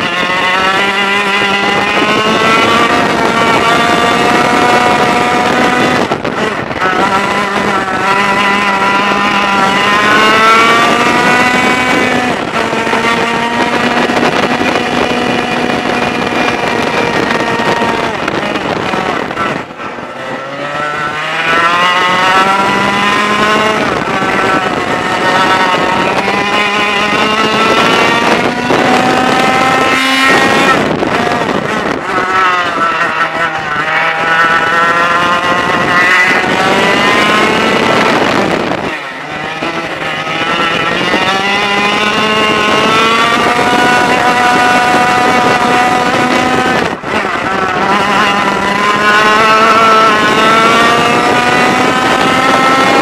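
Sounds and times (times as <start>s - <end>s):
kart engine at full throttle: 0.0s - 53.0s.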